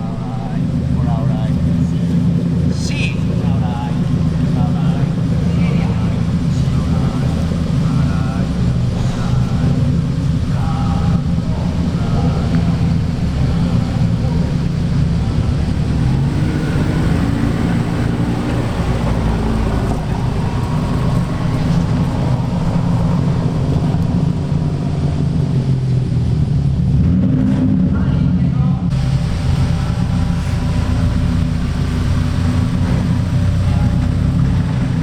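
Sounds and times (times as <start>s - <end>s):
car engine and exhaust rumbling: 0.0s - 35.0s.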